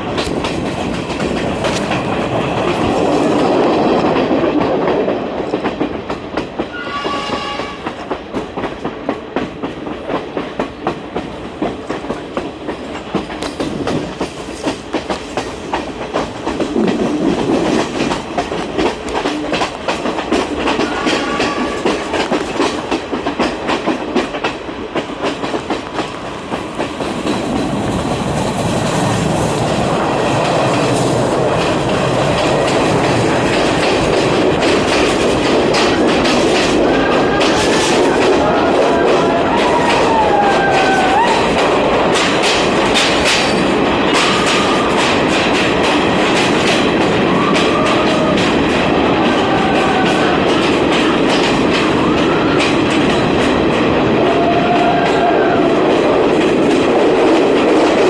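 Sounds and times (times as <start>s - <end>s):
train rumble: 0.0s - 58.0s
train wheels clattering over rail joints: 0.0s - 58.0s.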